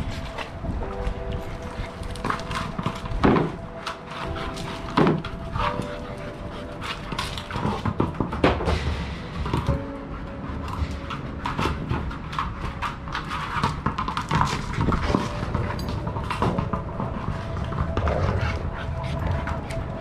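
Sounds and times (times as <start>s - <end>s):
dogs growling: 0.0s - 20.0s
paws scuffling on brick: 0.0s - 20.0s.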